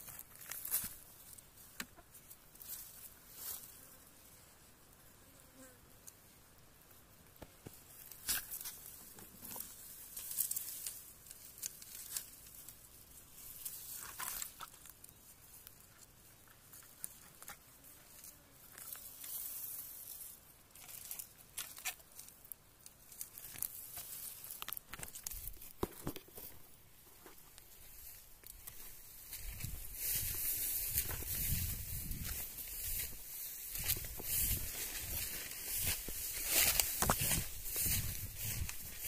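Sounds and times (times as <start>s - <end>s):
dry grass and leaves rustling: 0.0s - 5.0s, 5.9s - 39.0s.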